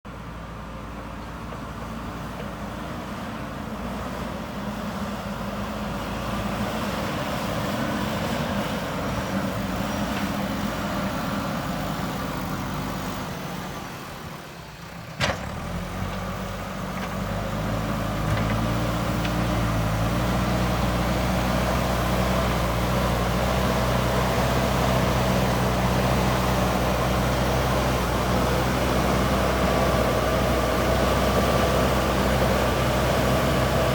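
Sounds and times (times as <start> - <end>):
backhoe diesel engine working: 0.1 - 33.9.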